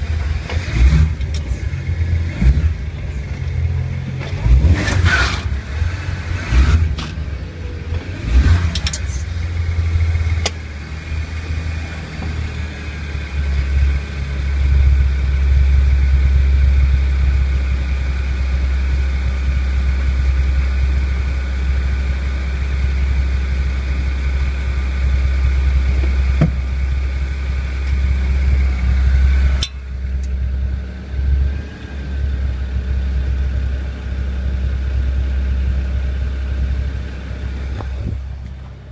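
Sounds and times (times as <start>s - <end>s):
car driving low drone: 0.0s - 38.9s.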